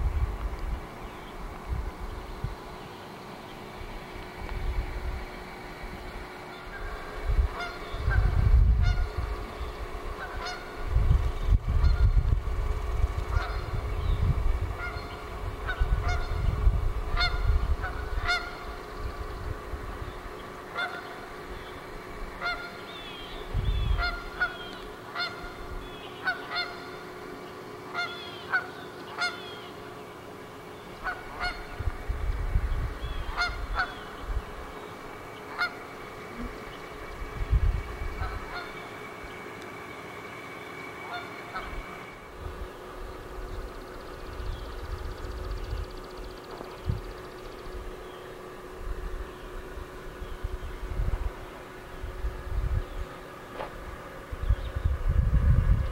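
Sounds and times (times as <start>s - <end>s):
wind rumbling on microphone: 0.0s - 2.8s, 3.8s - 26.0s, 31.0s - 34.8s, 36.3s - 38.7s, 41.5s - 55.9s
birds honking: 0.8s - 55.0s.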